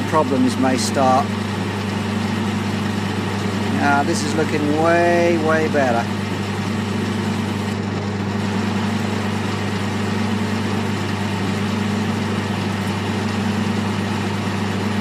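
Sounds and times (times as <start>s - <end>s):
metal lathe cutting: 0.0s - 15.0s.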